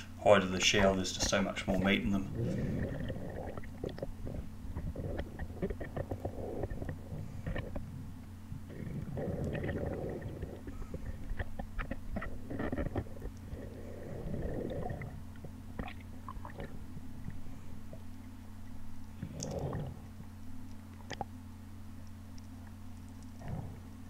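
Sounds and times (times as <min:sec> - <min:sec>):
steady low hum: 0:00.0 - 0:24.0
water gurgling: 0:00.6 - 0:18.2, 0:18.8 - 0:21.3
underwater rumbling: 0:01.7 - 0:21.3, 0:22.6 - 0:24.0.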